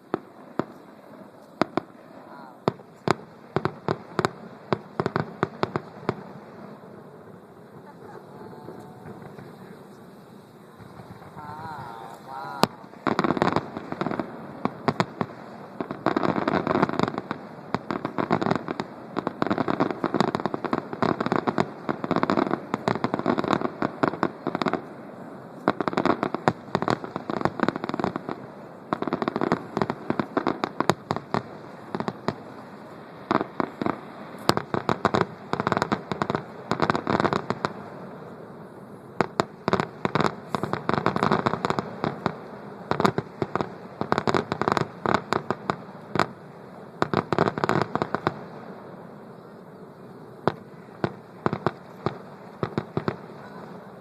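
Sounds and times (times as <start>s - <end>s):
firework warbling whistle: 0.0s - 54.0s
fireworks bangs and crackling: 0.0s - 54.0s.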